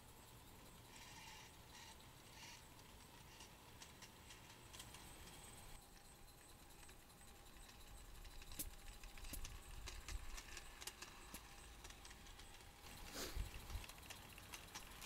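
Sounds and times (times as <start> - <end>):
low rumble of wagons: 0.0 - 15.0
model train wheels clicking: 0.0 - 15.0.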